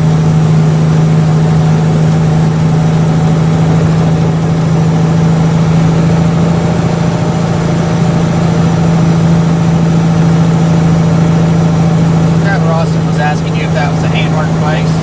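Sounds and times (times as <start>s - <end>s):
truck diesel engine drone: 0.0s - 15.0s.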